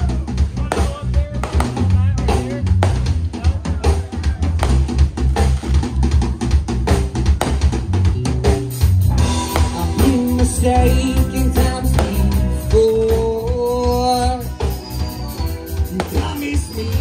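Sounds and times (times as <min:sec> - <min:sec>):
bending guitar melody line: 0:00.0 - 0:17.0
live rock band playing: 0:00.0 - 0:17.0.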